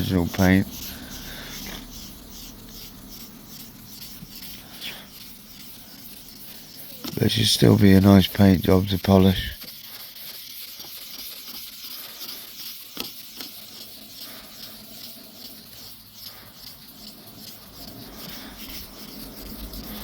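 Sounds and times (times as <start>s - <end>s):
sandpaper scraping on car panel: 0.0s - 20.0s.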